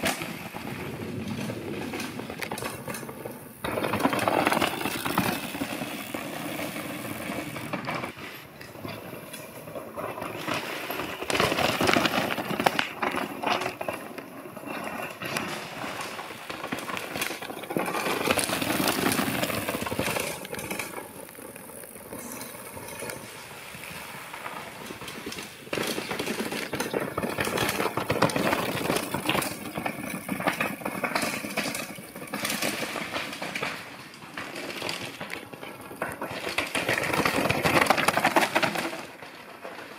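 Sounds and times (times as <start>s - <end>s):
tyres crunching over loose stones: 0.0s - 8.1s, 8.7s - 23.4s, 24.1s - 39.9s
bike frame and chain clattering: 0.0s - 39.9s.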